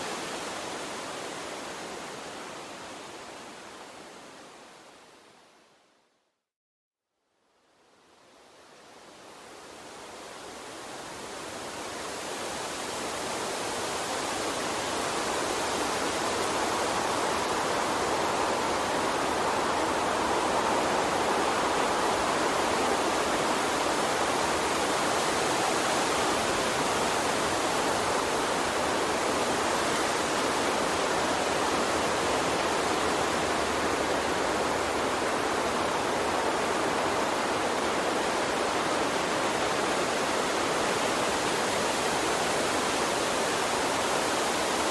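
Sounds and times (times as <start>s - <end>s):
water stream rushing: 0.0s - 4.5s, 9.4s - 44.9s.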